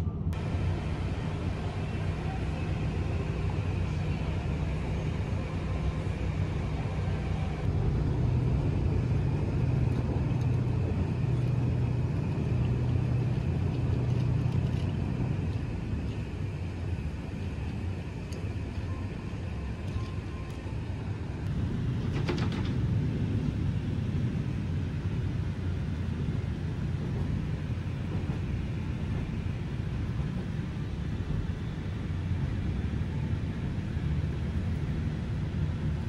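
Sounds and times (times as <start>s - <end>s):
diesel engine drone: 0.0s - 36.0s
train low rumble: 0.0s - 36.0s.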